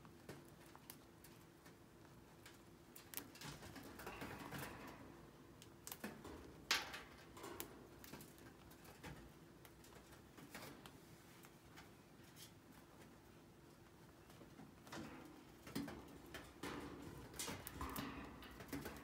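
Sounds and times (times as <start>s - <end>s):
chinchillas chewing seeds: 0.0s - 19.0s.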